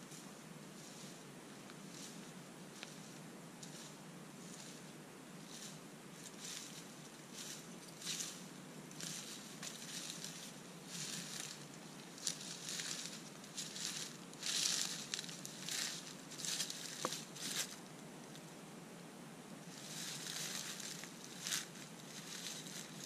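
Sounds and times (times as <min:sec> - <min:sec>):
footsteps crunching dry leaves: 0:01.8 - 0:17.9, 0:19.7 - 0:23.0.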